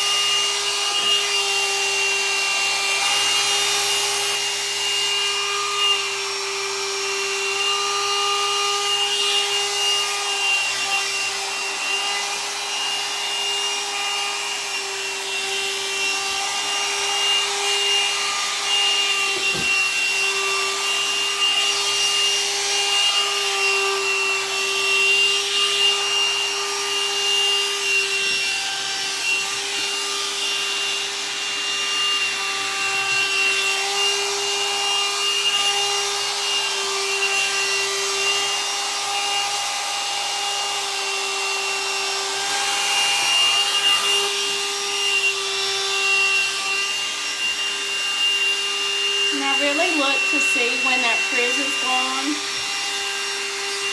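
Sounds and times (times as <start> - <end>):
hot air brush motor whine: 0.0 - 53.9.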